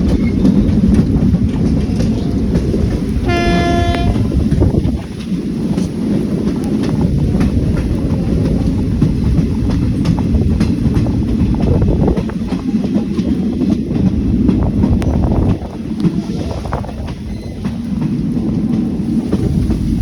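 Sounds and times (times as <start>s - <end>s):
train wheels rumbling on rails: 0.0s - 20.0s
wheels clicking over rail joints: 0.0s - 20.0s.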